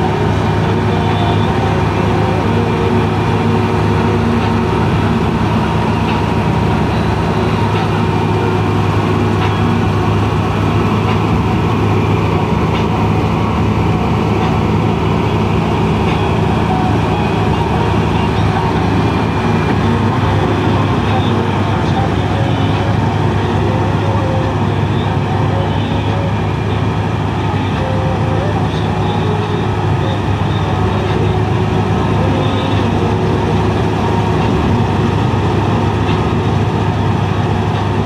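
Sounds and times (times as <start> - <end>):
combine harvester droning: 0.0 - 38.0.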